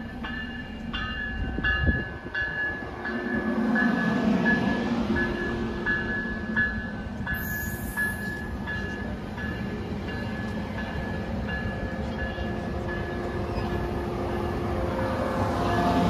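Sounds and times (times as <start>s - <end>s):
bell ringing: 0.0s - 13.8s
train rumbling: 0.0s - 16.0s.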